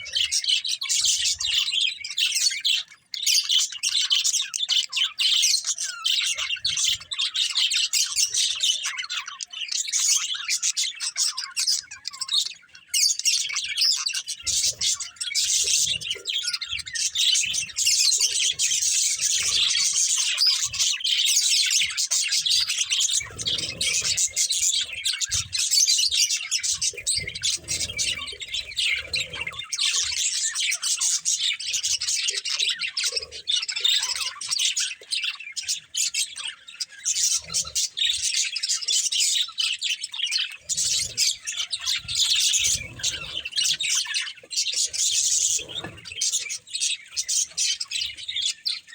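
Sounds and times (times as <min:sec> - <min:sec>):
budgerigars chirping: 0:00.0 - 0:48.9.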